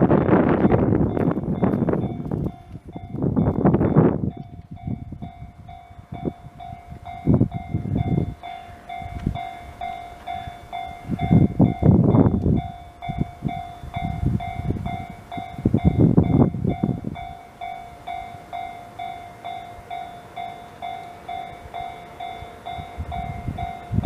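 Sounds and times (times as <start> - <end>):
train wheels rumbling: 0.0 - 24.0
level crossing bell ringing: 0.7 - 24.0.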